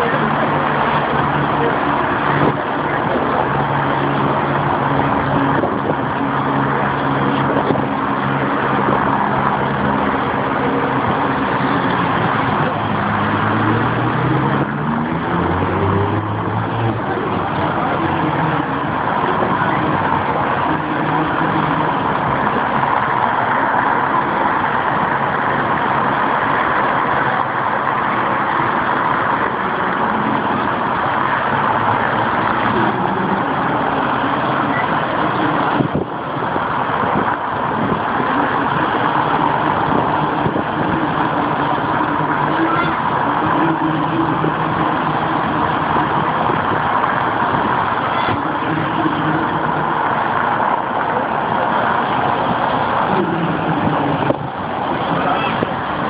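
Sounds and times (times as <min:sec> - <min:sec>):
car engine accelerating: 0:00.0 - 0:56.0
car engines driving slowly past: 0:00.0 - 0:56.0
outdoor background noise: 0:00.0 - 0:56.0.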